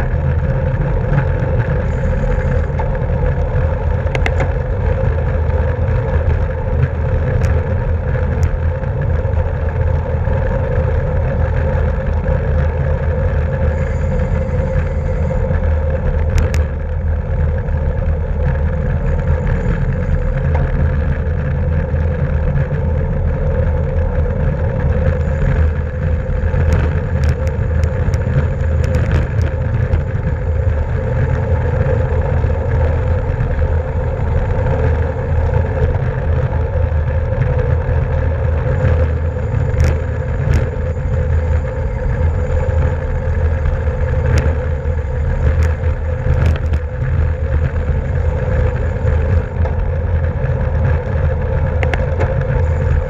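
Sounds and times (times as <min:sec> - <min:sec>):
road noise: 0:00.0 - 0:53.0.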